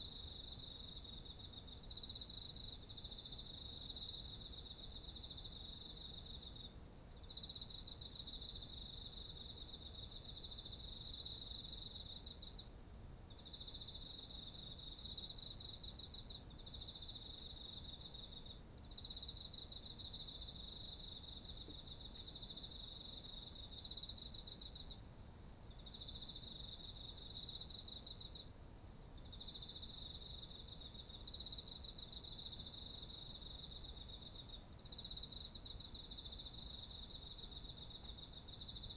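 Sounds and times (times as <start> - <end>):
lower pulsed insect trills: 0.0 - 38.9.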